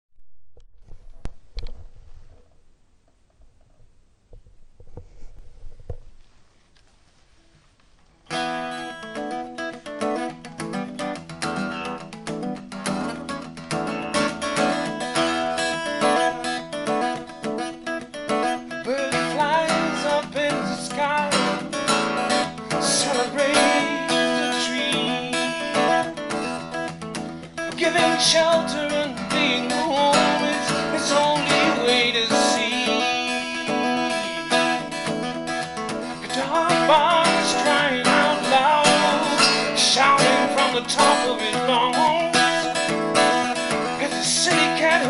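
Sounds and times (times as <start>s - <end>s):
acoustic guitar song: 4.8s - 45.0s.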